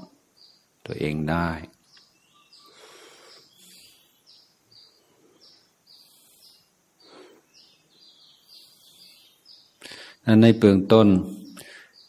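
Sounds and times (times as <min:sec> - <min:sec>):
faint bird chirping: 0:00.0 - 0:12.0
low background hiss: 0:00.0 - 0:12.0.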